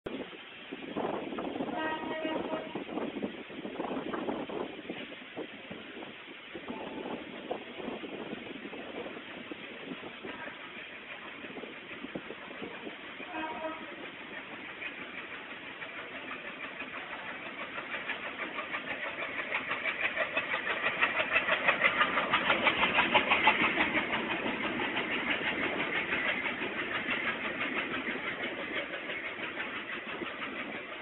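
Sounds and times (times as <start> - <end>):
train rhythmic pulsing: 0.1 - 31.0.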